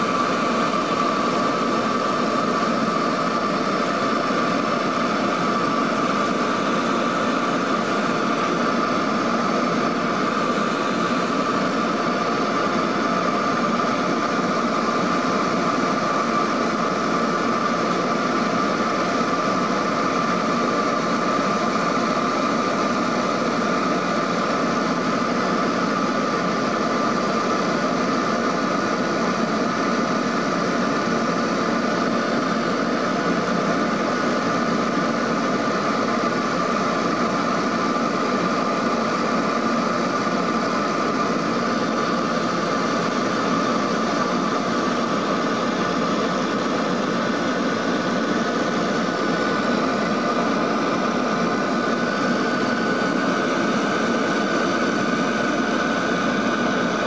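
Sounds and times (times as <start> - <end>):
steady high whine: 0.0 - 57.0
turboprop engine rumble: 0.0 - 57.0.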